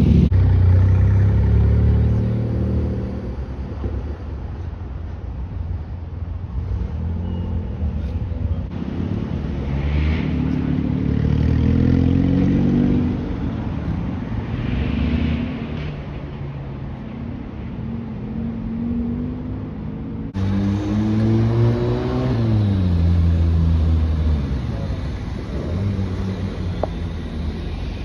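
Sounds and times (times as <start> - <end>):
car engines revving past: 0.0 - 4.0, 6.4 - 16.9, 18.2 - 28.0.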